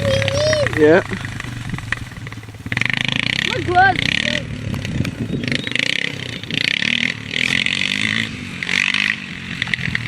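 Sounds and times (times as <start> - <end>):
quad engine revving: 0.0 - 10.0.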